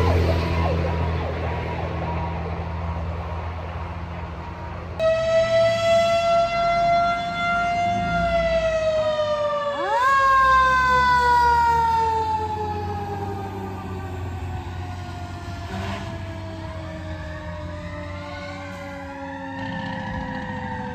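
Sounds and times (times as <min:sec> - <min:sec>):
fire engine sirens: 0:00.0 - 0:20.9.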